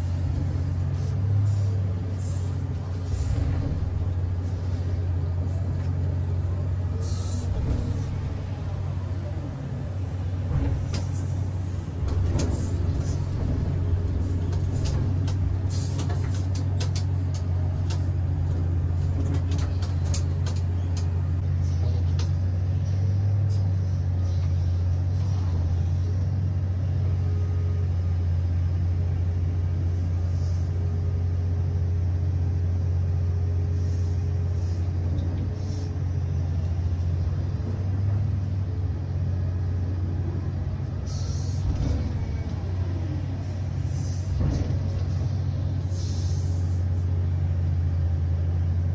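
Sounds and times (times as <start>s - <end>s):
excavator engine drone: 0.0s - 48.9s.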